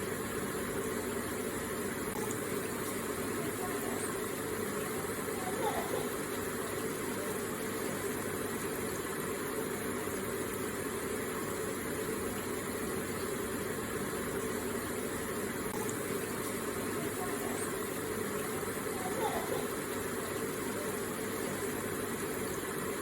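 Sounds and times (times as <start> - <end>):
water feature trickling: 0.0 - 23.0.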